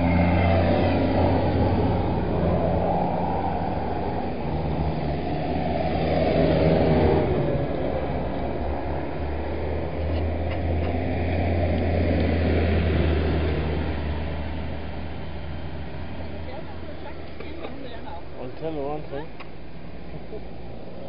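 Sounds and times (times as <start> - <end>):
tractor diesel engines driving past: 0.0 - 21.0.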